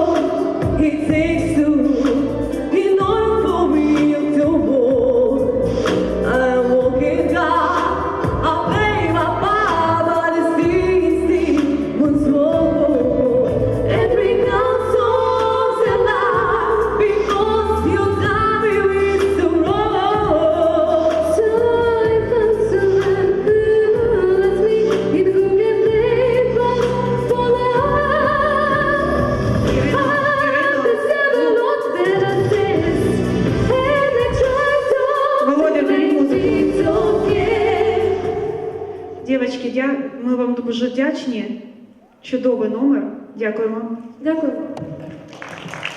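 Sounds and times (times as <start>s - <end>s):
instrumental accompaniment with bass: 0.0s - 39.2s
women singing a duet: 0.0s - 40.0s.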